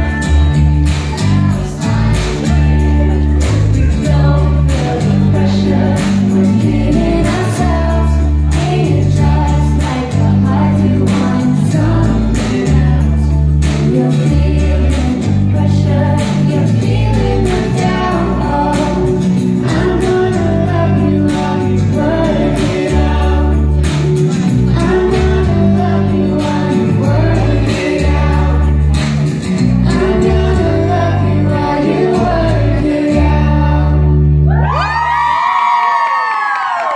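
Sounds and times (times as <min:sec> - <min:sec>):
drums: 0:00.0 - 0:34.0
person singing: 0:00.0 - 0:35.1
heavy pulsing bass line: 0:00.0 - 0:35.2.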